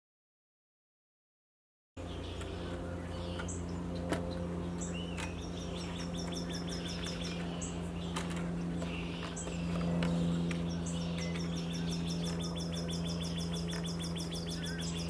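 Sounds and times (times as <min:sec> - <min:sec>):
low mechanical hum: 0:02.0 - 0:15.0.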